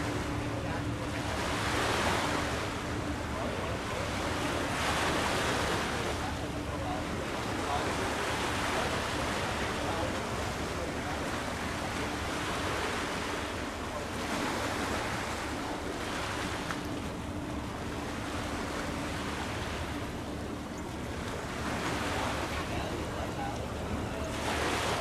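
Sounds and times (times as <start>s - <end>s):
rushing wind and water: 0.0s - 25.0s.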